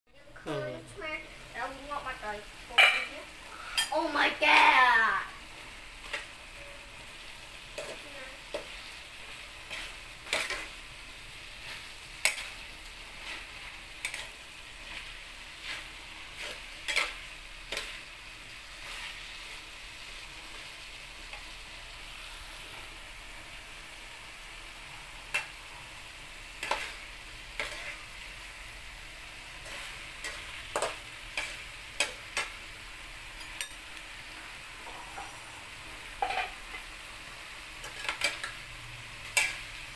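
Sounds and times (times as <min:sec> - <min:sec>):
food sizzling in a wok: 0:00.1 - 0:39.9.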